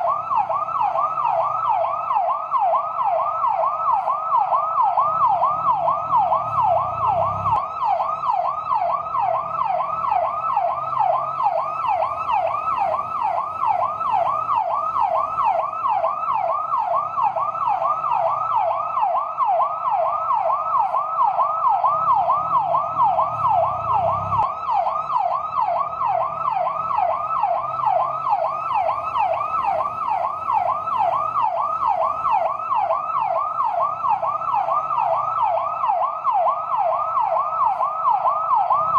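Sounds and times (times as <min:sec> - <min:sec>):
fire truck siren yelping: 0:00.0 - 0:38.9.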